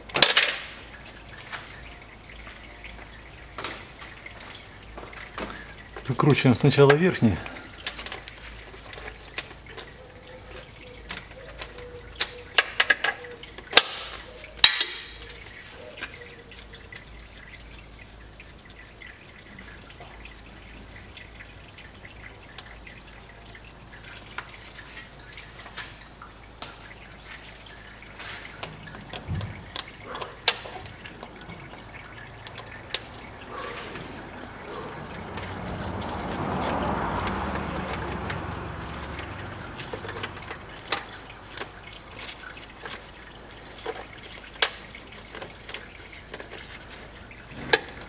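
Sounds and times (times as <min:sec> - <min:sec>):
fluid dripping into pan: 0:00.0 - 0:48.0.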